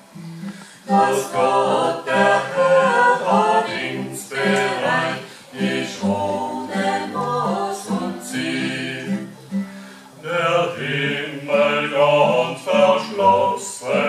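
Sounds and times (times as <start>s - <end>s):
group singing in harmony: 0.8s - 14.0s.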